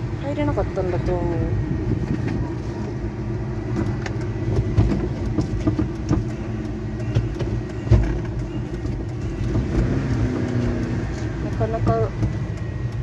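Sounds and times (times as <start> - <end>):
car engine: 0.0 - 13.0
road noise inside car: 0.0 - 13.0.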